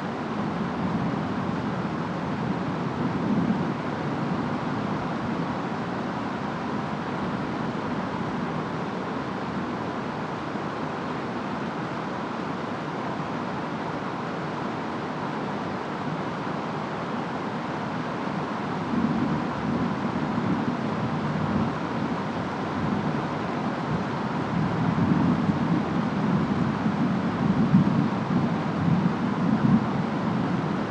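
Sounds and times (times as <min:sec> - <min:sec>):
rain: 0:00.0 - 0:30.9
wind: 0:00.0 - 0:30.9.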